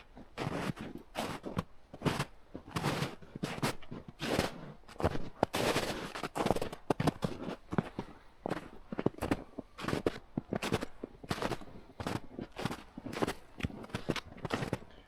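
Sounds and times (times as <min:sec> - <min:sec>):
footsteps crunching through brush: 0:02.0 - 0:14.9.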